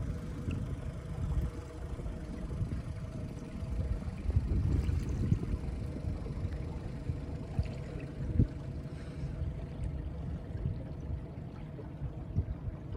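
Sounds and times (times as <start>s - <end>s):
low rumble: 0.0s - 12.9s
water lapping against boat hull: 0.0s - 12.9s.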